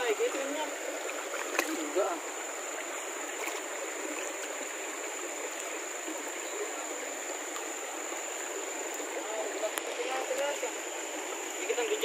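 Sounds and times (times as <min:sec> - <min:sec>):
river water over rocks: 0:00.0 - 0:12.0.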